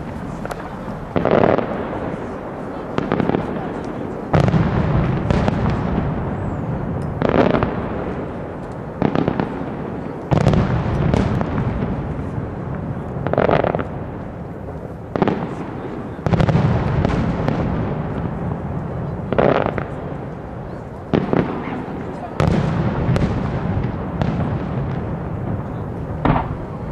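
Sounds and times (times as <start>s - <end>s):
firework booms: 0.0s - 26.9s
rumbling echo and crackle: 0.0s - 26.9s.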